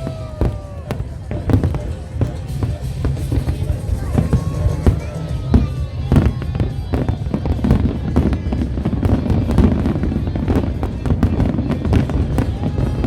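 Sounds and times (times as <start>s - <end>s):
deep rumble of bursting shells: 0.0s - 13.0s
fireworks cracks and bangs: 0.0s - 13.0s.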